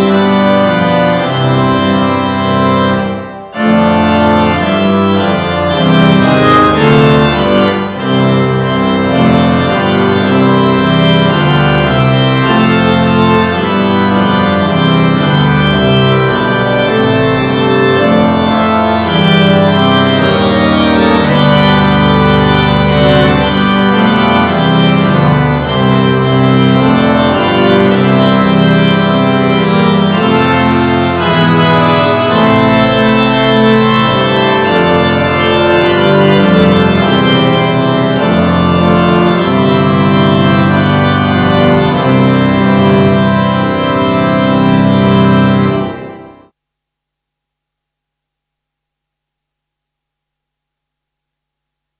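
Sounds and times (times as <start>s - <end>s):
organ playing slow chords: 0.0s - 46.5s.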